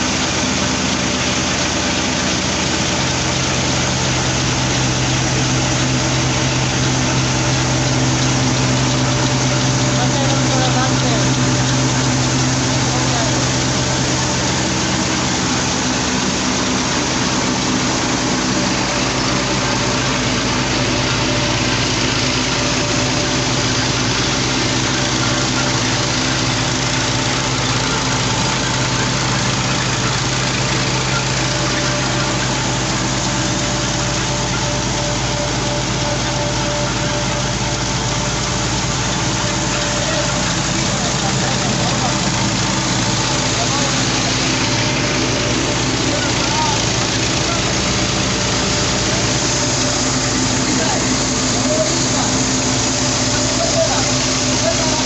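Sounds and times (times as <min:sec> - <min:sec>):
stone flour mill machinery: 0:00.0 - 0:55.0
tractor diesel engine running: 0:00.0 - 0:55.0.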